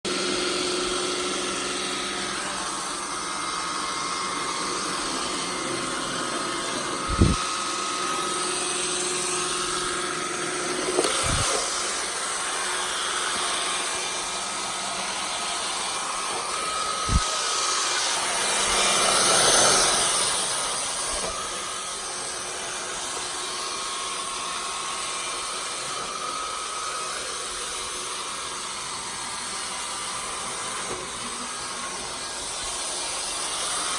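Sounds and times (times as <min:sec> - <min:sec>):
robot vacuum whirring: 0:00.1 - 0:33.9.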